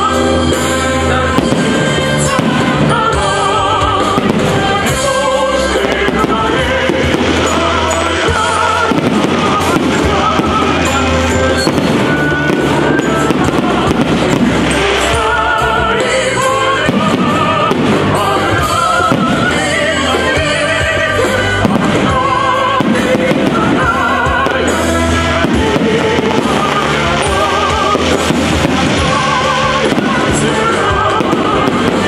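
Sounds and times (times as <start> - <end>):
fireworks bangs and crackle: 0.0 - 32.0.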